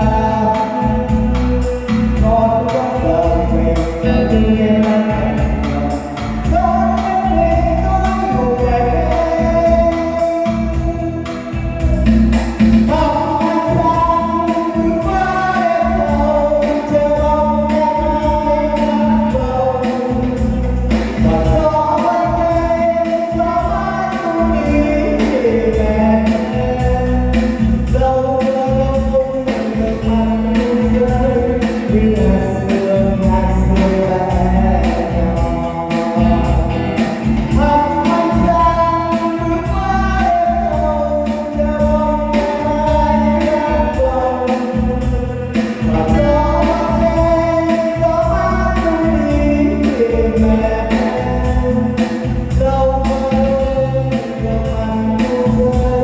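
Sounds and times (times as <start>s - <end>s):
song with band accompaniment: 0.0s - 56.0s.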